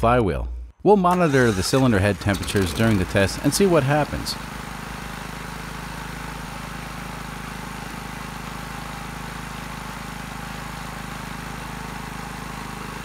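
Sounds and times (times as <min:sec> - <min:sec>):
small engine running steadily: 0:02.0 - 0:13.0.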